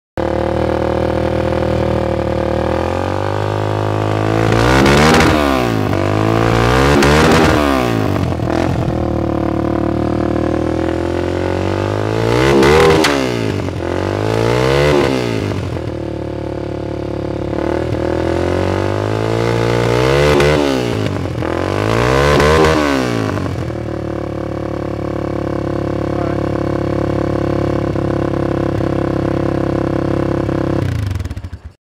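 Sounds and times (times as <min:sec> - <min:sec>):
atv engine idling and revving: 0:00.2 - 0:31.8.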